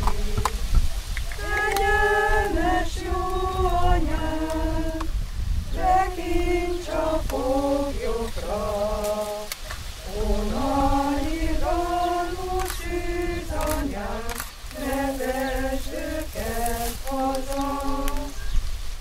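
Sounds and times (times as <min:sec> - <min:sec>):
voices singing in unison: 0:00.0 - 0:18.6.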